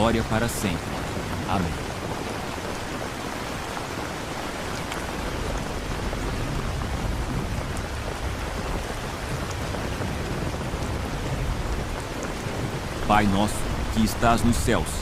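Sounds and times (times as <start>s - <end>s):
raindrop ticks: 0.0s - 15.0s
steady rain: 0.0s - 15.0s.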